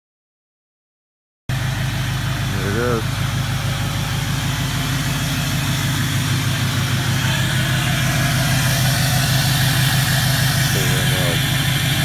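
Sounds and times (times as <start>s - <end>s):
diesel engine idling: 1.5s - 12.0s.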